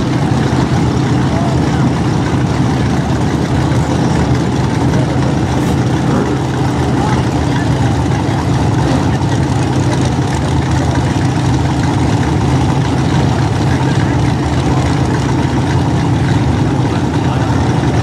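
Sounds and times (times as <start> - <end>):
race car engines idling: 0.0 - 18.0.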